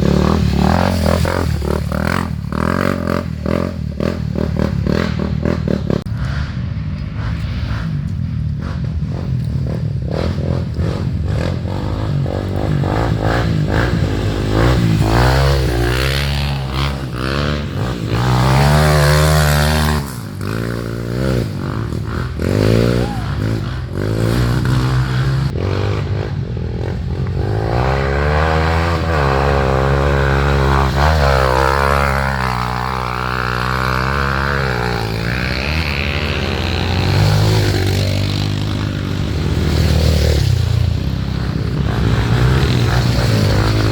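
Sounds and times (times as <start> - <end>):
trail motorcycles revving: 0.0 - 43.9.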